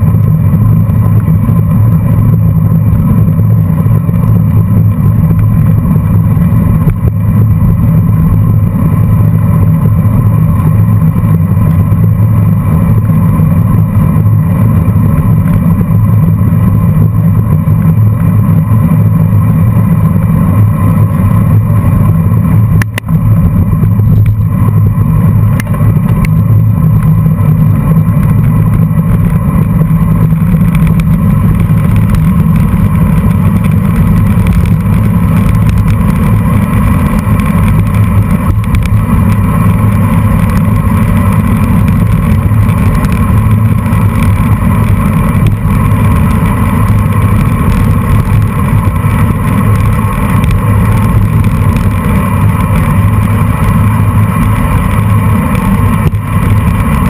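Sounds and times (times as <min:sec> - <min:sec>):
bicycle tyres on road: 0:00.0 - 0:57.0.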